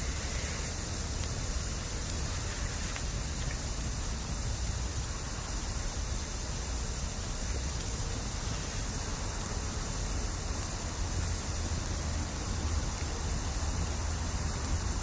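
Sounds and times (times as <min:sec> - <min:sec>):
fire popping: 0:00.0 - 0:06.3, 0:07.1 - 0:15.0
campfire hissing and rumbling: 0:00.0 - 0:15.0.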